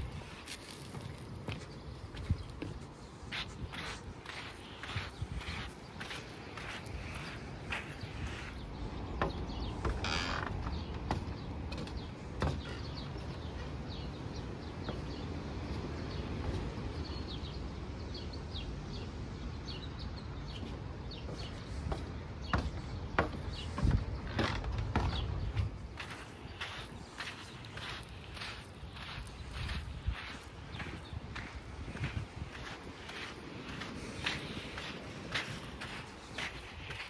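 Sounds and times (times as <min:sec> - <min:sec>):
footsteps on wooden decking: 0:00.0 - 0:17.7, 0:20.0 - 0:37.0
small birds chirping: 0:00.0 - 0:37.0.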